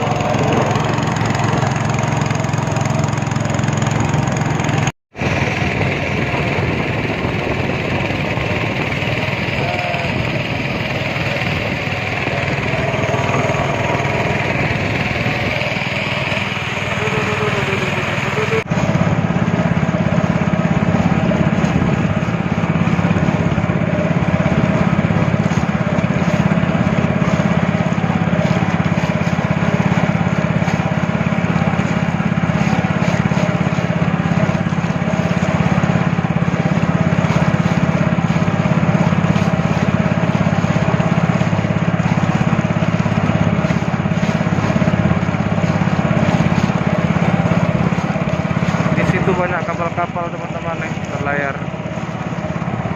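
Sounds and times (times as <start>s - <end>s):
speedboat engine running: 0.0s - 52.9s.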